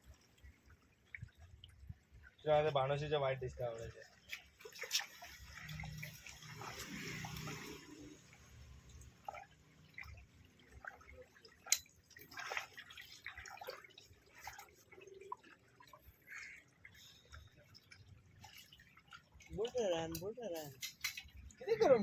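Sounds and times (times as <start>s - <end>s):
small water splashes and drips: 0.0s - 22.0s.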